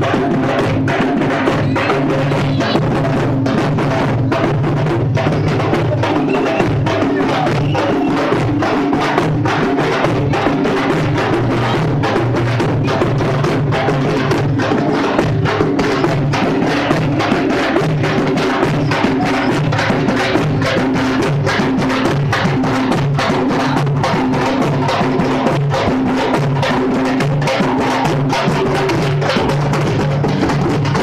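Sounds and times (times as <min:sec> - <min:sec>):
drums beating fast rhythm: 0:00.0 - 0:31.0.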